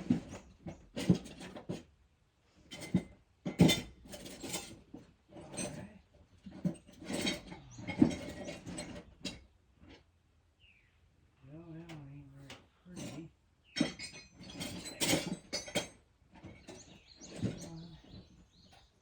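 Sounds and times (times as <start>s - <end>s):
metal clinks and clanks: 0.0s - 1.8s, 2.7s - 10.0s, 12.4s - 18.9s.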